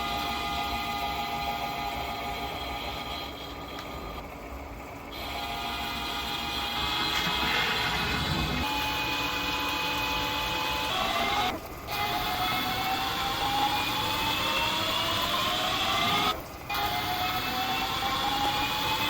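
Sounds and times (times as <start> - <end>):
metal lathe whine: 0.0 - 19.0.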